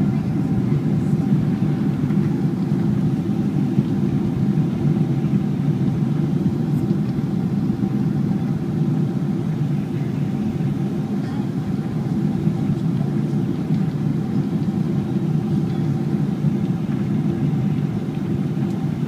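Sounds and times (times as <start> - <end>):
aircraft cabin engine drone: 0.0 - 19.0.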